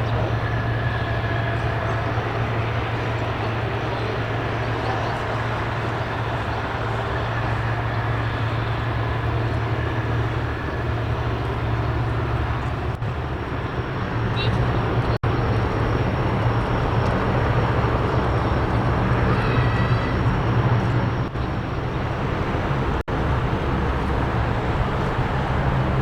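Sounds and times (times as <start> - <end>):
jet engine running: 0.0 - 26.0.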